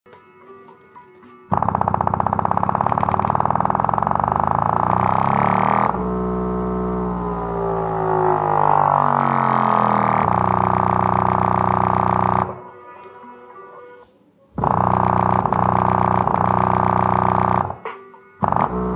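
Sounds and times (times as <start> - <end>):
subwoofer deep buzzy bass: 1.5 - 12.6, 14.6 - 18.9.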